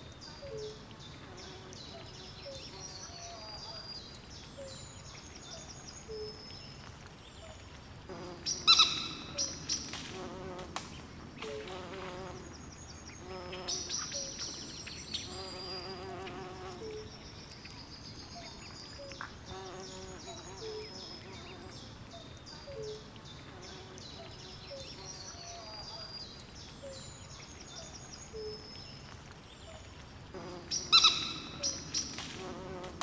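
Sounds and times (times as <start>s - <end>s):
faint hiss: 0.0s - 33.0s.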